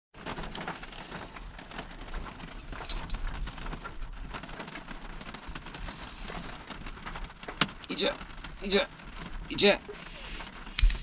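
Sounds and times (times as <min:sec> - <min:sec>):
rain pattering on hard surface: 0:00.2 - 0:11.0.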